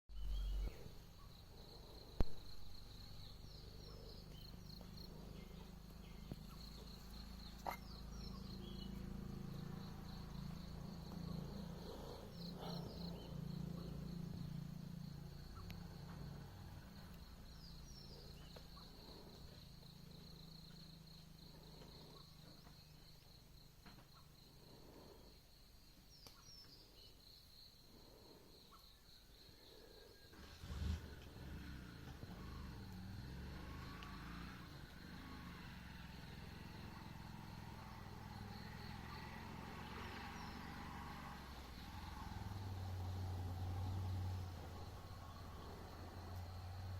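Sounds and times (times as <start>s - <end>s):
insects trilling: 0.2s - 46.9s
short insect chirps: 0.2s - 46.9s.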